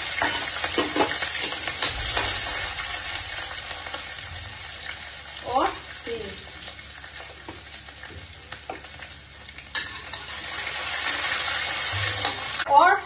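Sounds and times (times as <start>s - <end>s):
spices sizzling in hot oil: 0.0s - 12.8s.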